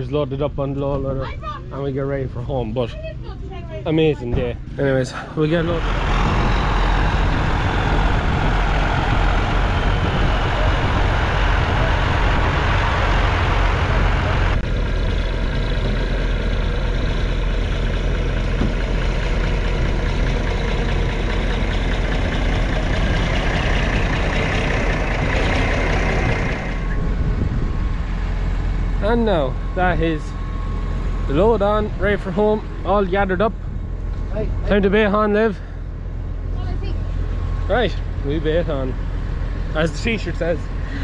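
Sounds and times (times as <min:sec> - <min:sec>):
tractor engines running: 0:00.0 - 0:41.0.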